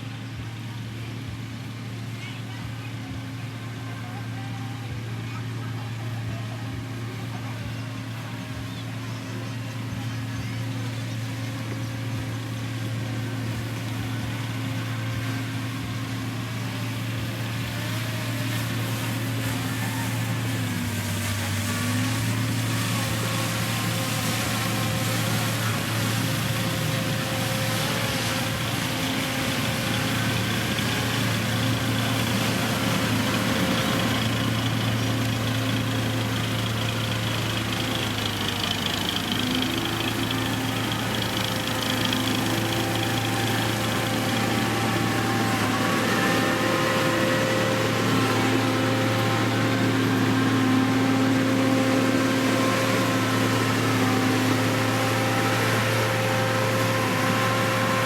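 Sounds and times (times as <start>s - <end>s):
heavy machine engine humming: 0.0s - 58.0s.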